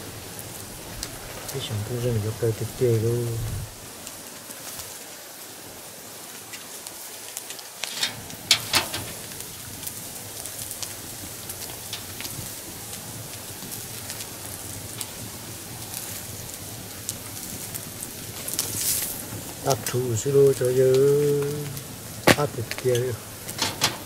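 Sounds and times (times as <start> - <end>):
campfire crackling: 0.0 - 24.0
meat sizzling on a grill: 0.0 - 24.0.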